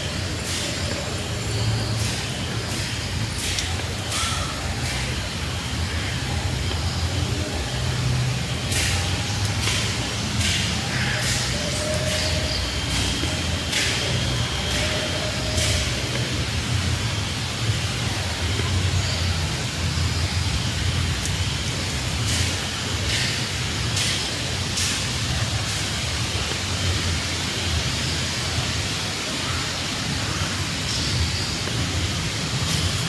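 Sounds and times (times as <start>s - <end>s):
even hiss: 0.0s - 33.0s.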